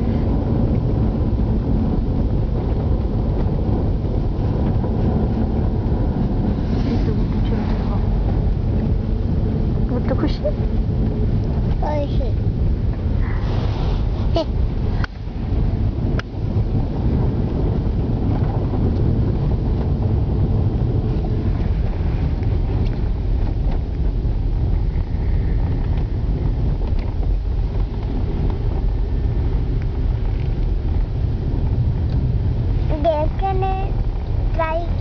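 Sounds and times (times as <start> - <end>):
car road and engine rumble: 0.0 - 35.0
wind noise on microphone: 0.0 - 35.0.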